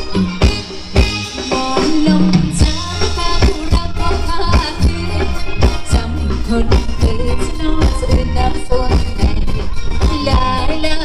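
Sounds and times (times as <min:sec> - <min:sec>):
live band dance music over loudspeakers: 0:00.0 - 0:11.0.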